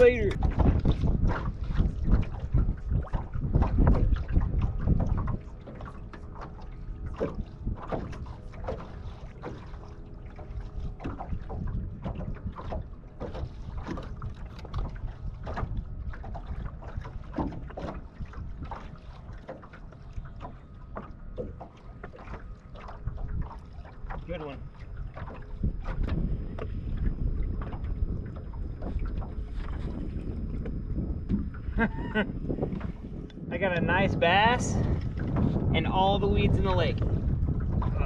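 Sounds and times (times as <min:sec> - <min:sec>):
waves lapping against boat hull: 0:00.0 - 0:38.0
wind buffeting microphone: 0:00.0 - 0:38.0.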